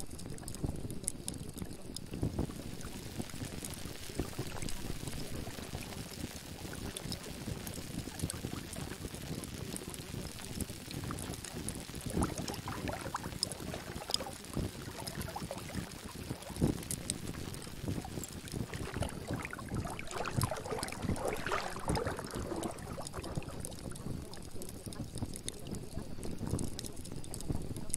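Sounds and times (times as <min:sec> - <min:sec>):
water lapping and splashing: 0:00.1 - 0:27.9.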